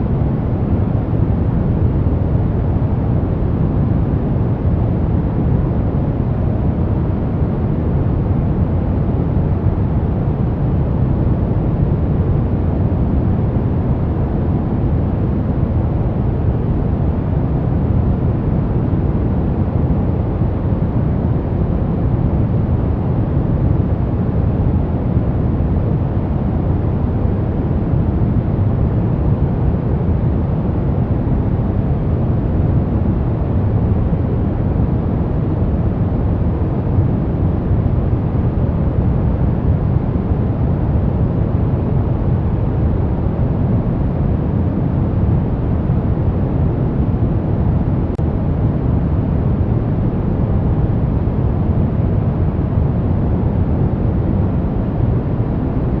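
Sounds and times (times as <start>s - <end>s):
deep white noise hiss: 0.0s - 56.0s.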